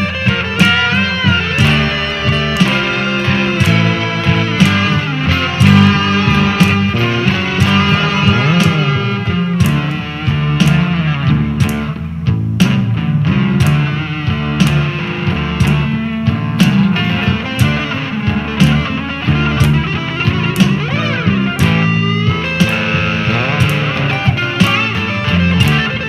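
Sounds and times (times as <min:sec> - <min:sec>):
blues rock band playing: 0:00.0 - 0:26.0
electric guitar lead lines: 0:00.0 - 0:26.0.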